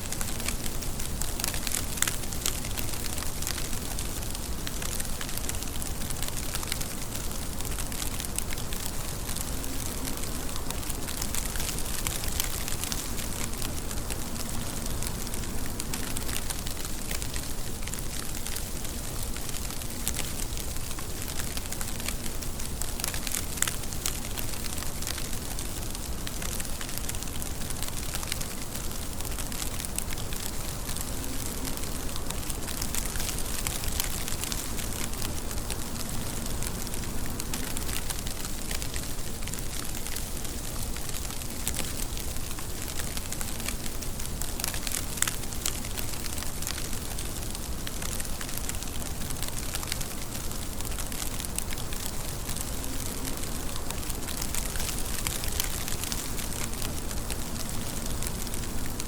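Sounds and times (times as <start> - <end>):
raindrops ticking: 0.0 - 59.0
steady rain: 0.0 - 59.0.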